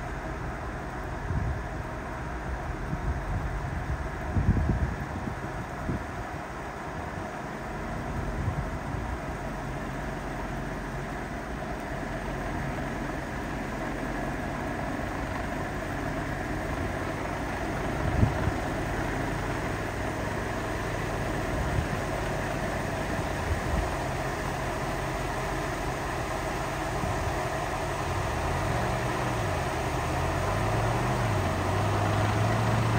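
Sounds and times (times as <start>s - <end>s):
tracked vehicle engine running: 0.0s - 32.9s.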